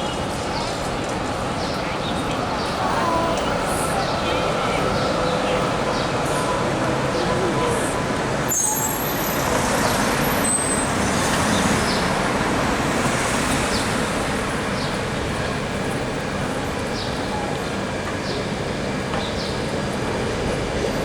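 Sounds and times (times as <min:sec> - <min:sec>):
street noise: 0:00.0 - 0:21.0
tram rumbling: 0:00.0 - 0:21.0.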